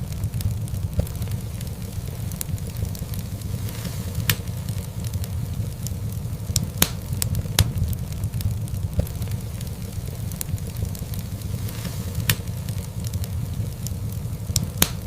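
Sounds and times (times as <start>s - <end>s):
burning logs popping: 0.0s - 15.0s
wood fire crackling: 0.0s - 15.0s.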